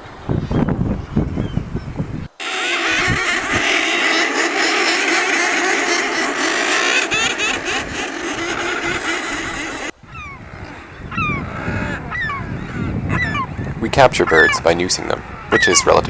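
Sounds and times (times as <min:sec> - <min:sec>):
bird calls falling in pitch: 0:02.4 - 0:16.0
seabirds growling and cackling: 0:02.4 - 0:16.0.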